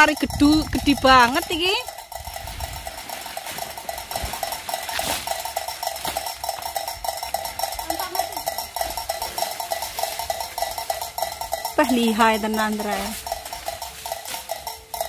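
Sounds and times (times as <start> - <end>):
rapid metallic tinkling: 0.0 - 15.0.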